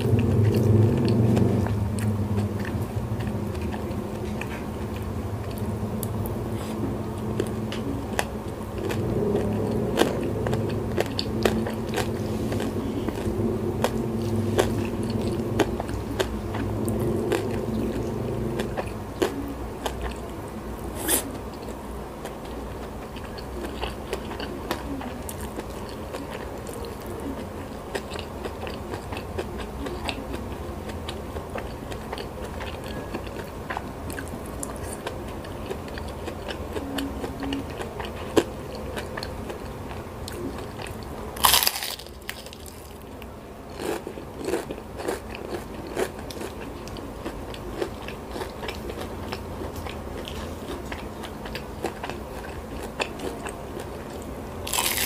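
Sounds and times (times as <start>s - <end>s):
close chewing with crunches: 0.0s - 55.0s.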